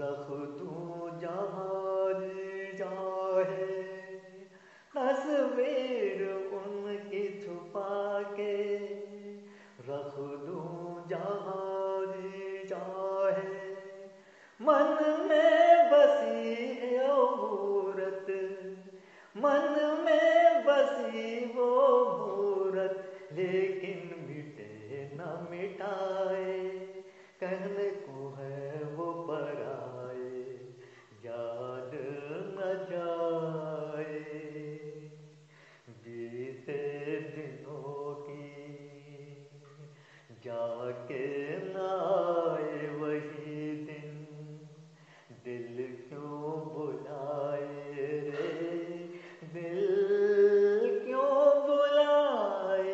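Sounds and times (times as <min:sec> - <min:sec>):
man singing: 0:00.0 - 0:52.9.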